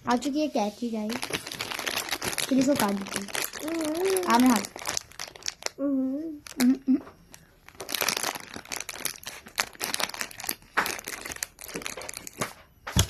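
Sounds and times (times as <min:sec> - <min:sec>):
wrapper crinkling and rustling: 0:00.2 - 0:05.8, 0:06.4 - 0:13.0.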